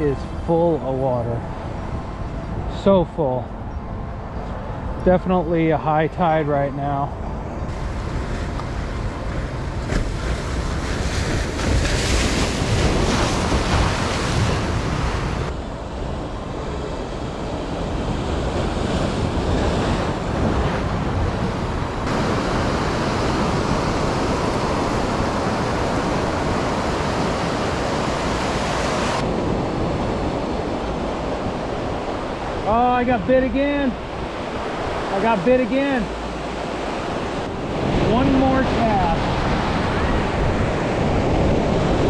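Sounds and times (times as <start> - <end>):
wind buffeting microphone: 7.1 - 42.0.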